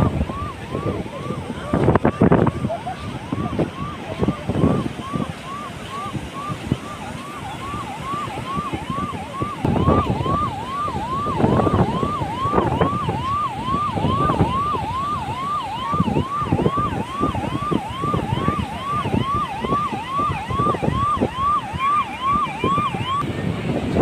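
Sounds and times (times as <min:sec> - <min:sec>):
electronic siren sweeping: 0:00.0 - 0:24.0
wind buffeting microphone: 0:00.0 - 0:24.0.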